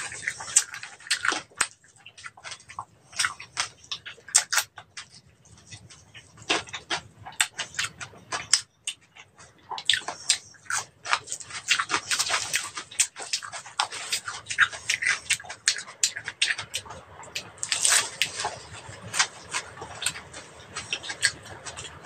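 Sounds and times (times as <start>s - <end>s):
chewing and mouth smacking: 0.0s - 22.0s.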